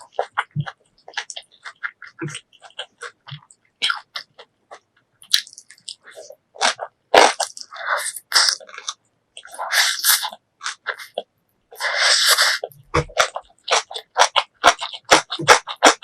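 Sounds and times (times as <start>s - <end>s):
crisp crunching and chewing: 0.0s - 16.0s
wet mouth sounds: 0.0s - 16.0s.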